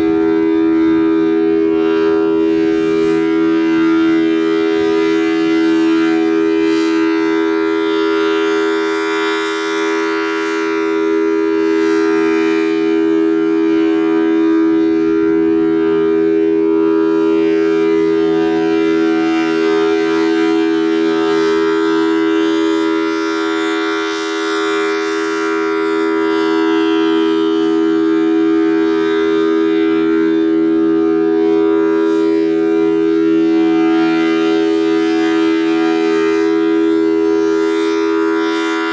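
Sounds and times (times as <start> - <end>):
warning siren two-note chord: 0.0 - 38.9.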